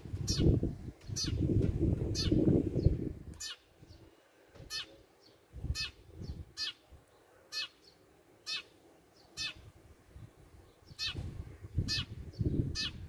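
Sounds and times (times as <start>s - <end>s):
sparrow chirping: 0.2s - 13.0s.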